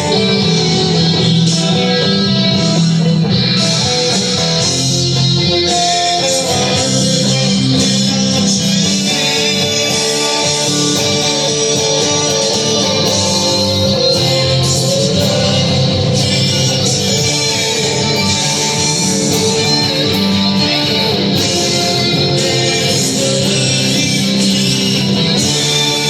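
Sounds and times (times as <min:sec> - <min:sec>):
electric guitar playing: 0:00.0 - 0:26.0
rock song recording: 0:00.0 - 0:26.0.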